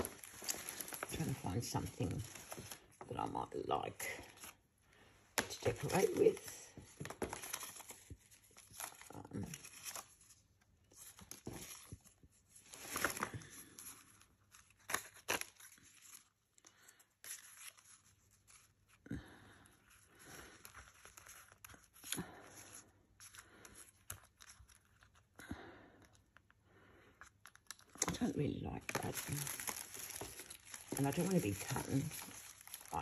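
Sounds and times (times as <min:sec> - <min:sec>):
paper rustling and crinkling: 0:00.0 - 0:03.3, 0:05.4 - 0:25.4, 0:27.2 - 0:33.0.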